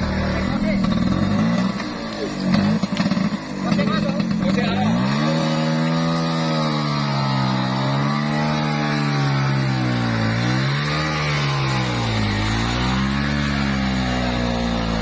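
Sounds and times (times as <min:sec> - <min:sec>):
vehicle engine pulling uphill: 0:00.0 - 0:15.0.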